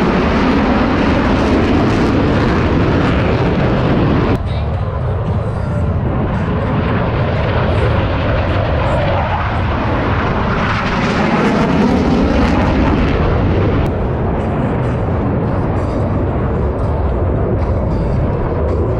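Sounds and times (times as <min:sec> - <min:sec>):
jet aircraft passing: 0:00.0 - 0:18.9.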